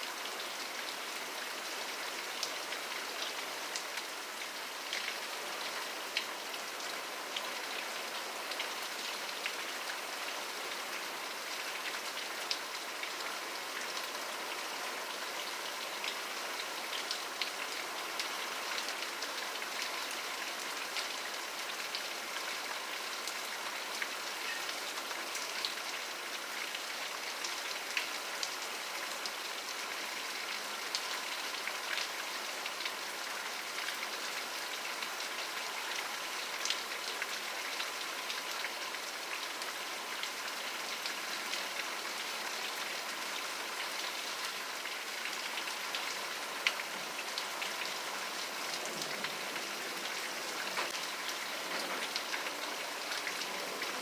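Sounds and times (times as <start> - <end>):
steady rainfall: 0.0 - 54.0
raindrops ticking on a surface: 2.1 - 14.2, 15.0 - 54.0.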